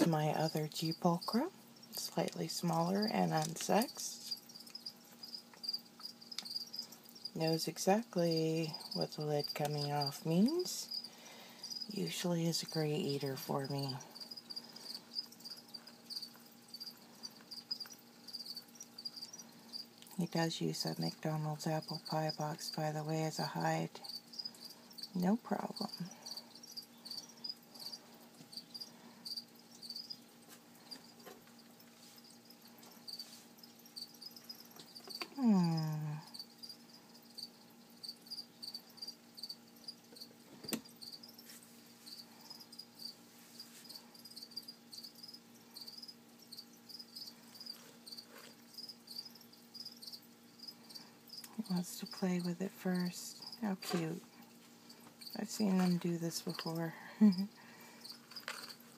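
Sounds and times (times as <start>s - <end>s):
crickets chirping: 0.0s - 58.9s
faint steady hum: 0.0s - 58.9s.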